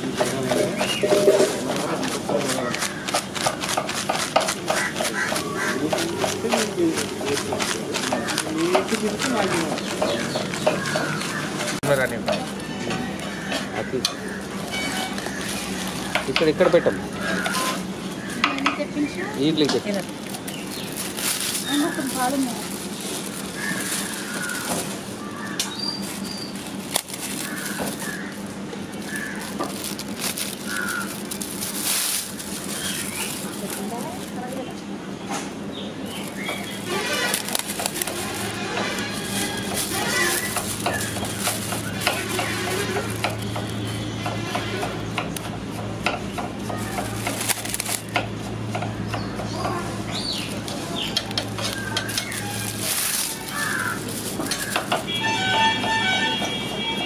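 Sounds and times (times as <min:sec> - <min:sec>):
aluminium foil crinkling: 0:00.0 - 0:34.7, 0:36.1 - 0:45.4, 0:46.2 - 0:48.7, 0:50.1 - 0:55.8.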